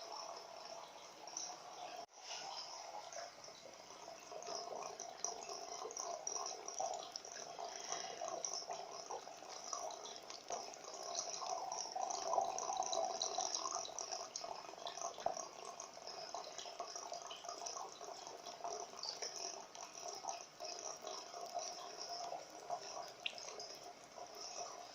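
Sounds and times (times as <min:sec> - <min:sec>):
water dripping: 0:00.0 - 0:24.9
water running inside wall: 0:00.0 - 0:24.9.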